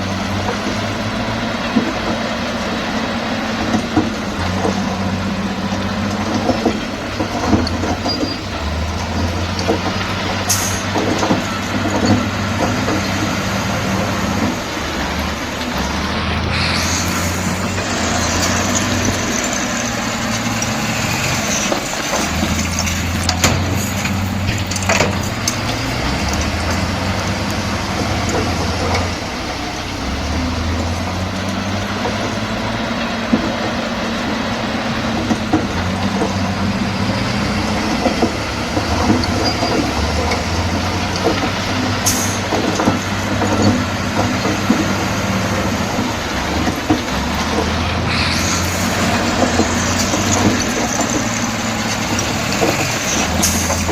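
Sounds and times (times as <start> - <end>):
bulldozer diesel engine: 0.0 - 53.9
metallic clanks: 3.6 - 53.9.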